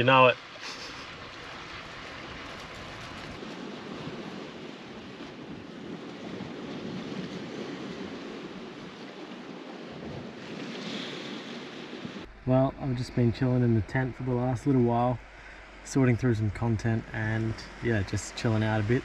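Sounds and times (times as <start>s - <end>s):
light wind: 0.0s - 19.0s
surf washing on shore: 0.0s - 19.0s.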